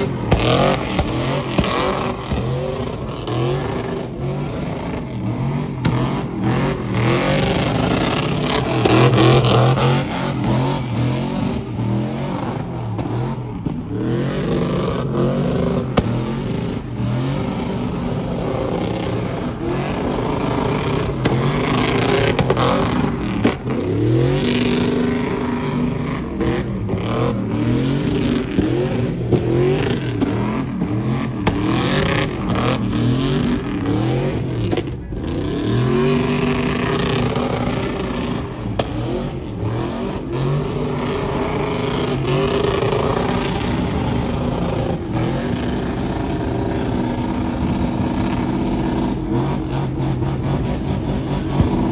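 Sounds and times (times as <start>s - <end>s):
truck engines revving: 0.0s - 51.9s.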